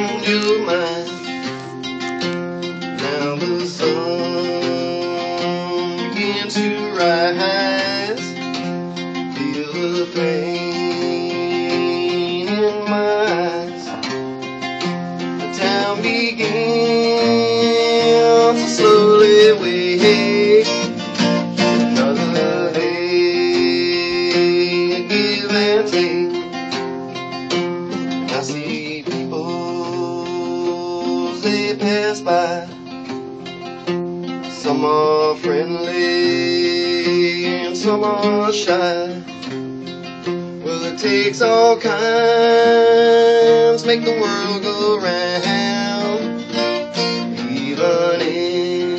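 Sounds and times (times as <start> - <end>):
two guitars playing: 0.0 - 48.9.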